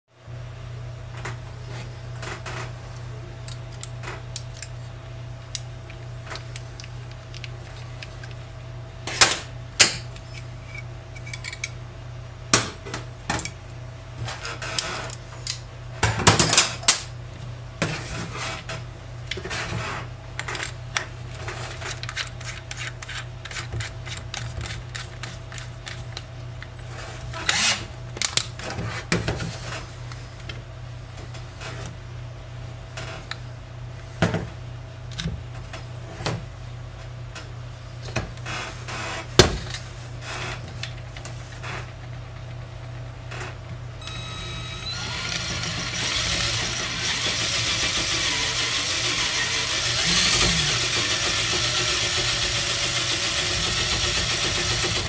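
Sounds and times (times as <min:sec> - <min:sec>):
steady low hum: 0:00.1 - 0:55.0.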